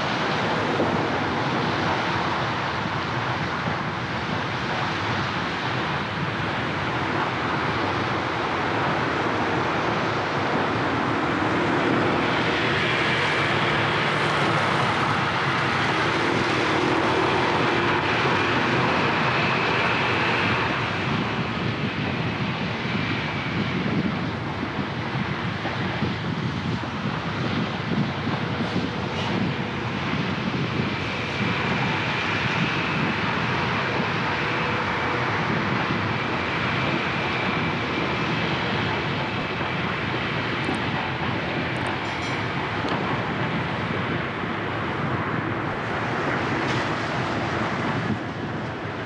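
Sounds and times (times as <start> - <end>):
city traffic noise: 0.0 - 49.0
passing engine whine: 0.0 - 49.0.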